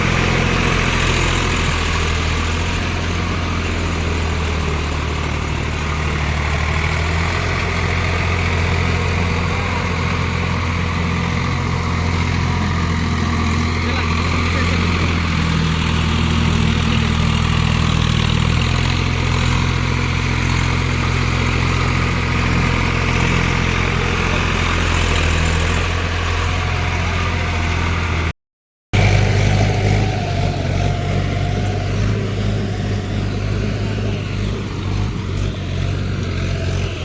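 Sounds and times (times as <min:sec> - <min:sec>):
diesel tractor engine running: 0:00.0 - 0:28.3, 0:28.9 - 0:37.0.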